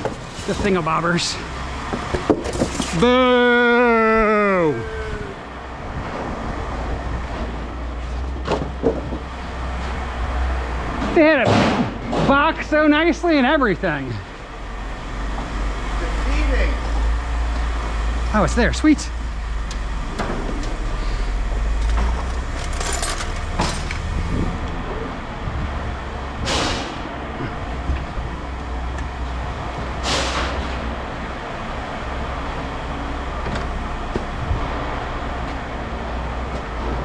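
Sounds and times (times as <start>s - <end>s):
motor vehicle rumble: 0.0s - 37.0s.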